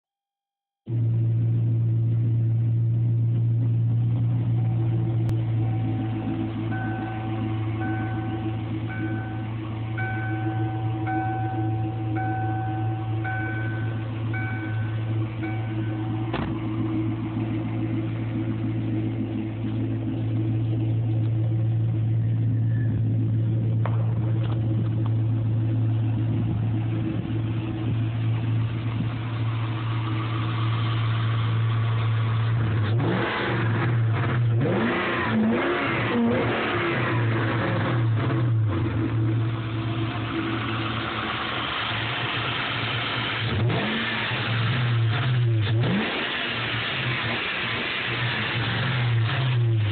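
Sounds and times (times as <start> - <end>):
car engine idling and revving: 0.7 - 49.9.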